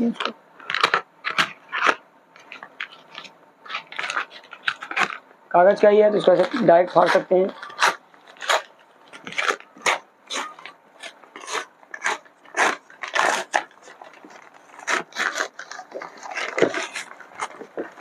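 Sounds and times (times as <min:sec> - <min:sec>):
paper bag tearing and crumpling: 0:00.0 - 0:18.0.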